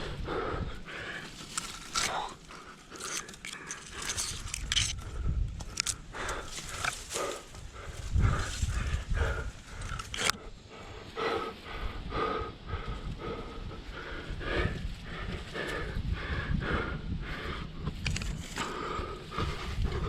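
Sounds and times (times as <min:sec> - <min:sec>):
person panting: 0:00.0 - 0:20.0
wind rumble on microphone: 0:00.0 - 0:20.0.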